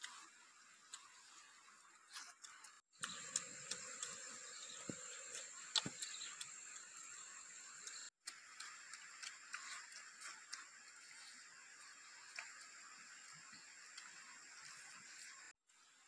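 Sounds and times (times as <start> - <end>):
people chewing: 2.1 - 15.5.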